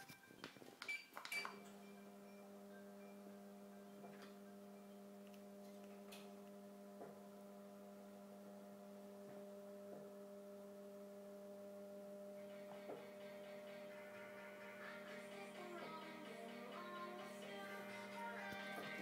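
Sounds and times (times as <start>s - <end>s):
faint electrical hum: 0.0s - 19.0s
faint music: 0.0s - 19.0s.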